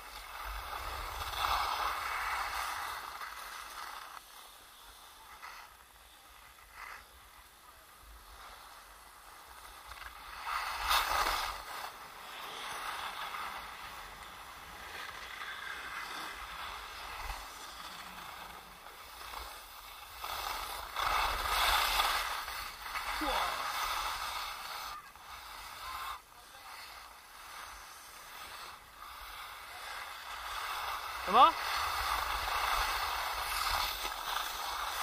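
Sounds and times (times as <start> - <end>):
skis scraping over snow: 0.0 - 35.0.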